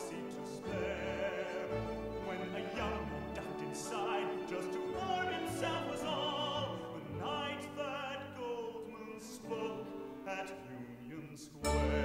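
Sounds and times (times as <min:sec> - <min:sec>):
orchestra playing: 0:00.0 - 0:11.0, 0:11.6 - 0:12.0.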